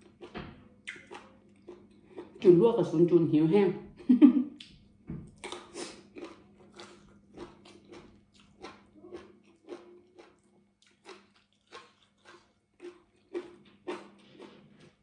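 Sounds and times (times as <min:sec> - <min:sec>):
person chewing with wet smacks: 0:00.0 - 0:02.5, 0:04.6 - 0:15.0.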